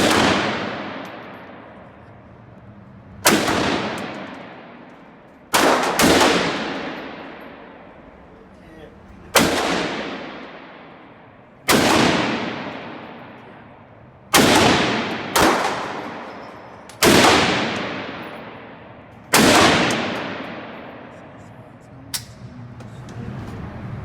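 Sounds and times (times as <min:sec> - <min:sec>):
gunshots with echoing decay: 0:00.0 - 0:02.1, 0:03.2 - 0:08.2, 0:09.3 - 0:21.6.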